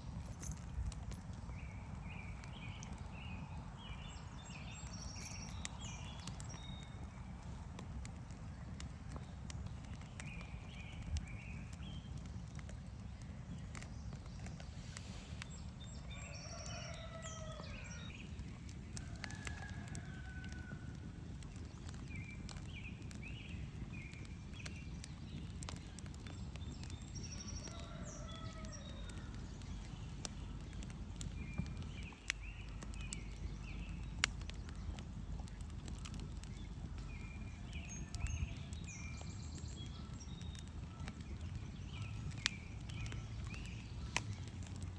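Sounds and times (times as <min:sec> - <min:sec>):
campfire crackling and popping: 0:00.0 - 0:44.9
songbirds singing: 0:00.0 - 0:44.9.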